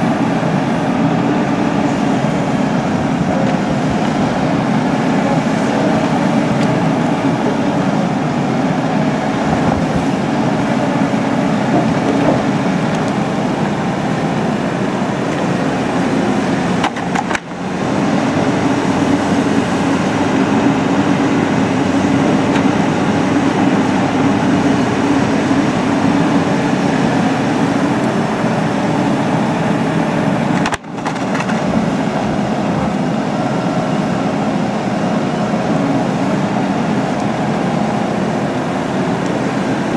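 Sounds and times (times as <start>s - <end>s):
excavator diesel engine running: 0.0s - 39.9s
hydraulics working: 0.0s - 39.9s.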